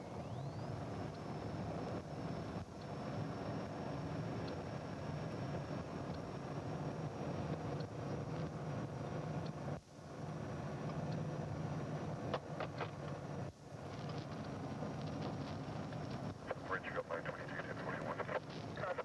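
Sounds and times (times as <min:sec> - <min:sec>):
car engine and road noise: 0:00.0 - 0:16.5, 0:18.4 - 0:18.8.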